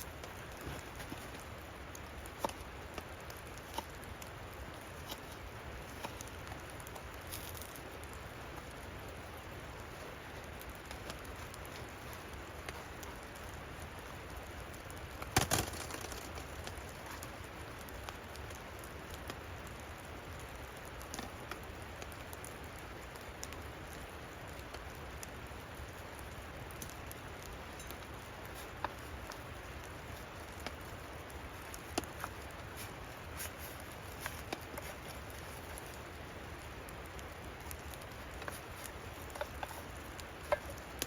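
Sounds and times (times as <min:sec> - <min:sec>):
snow pattering on shelter: 0:00.0 - 0:41.0.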